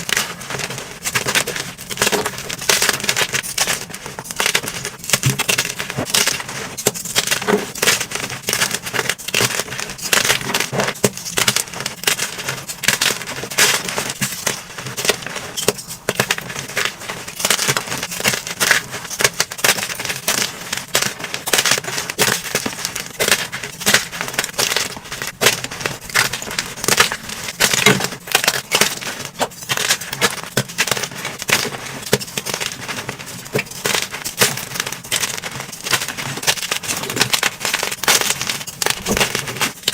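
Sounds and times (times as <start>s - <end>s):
chalk being crushed by hand: 0.0s - 39.9s.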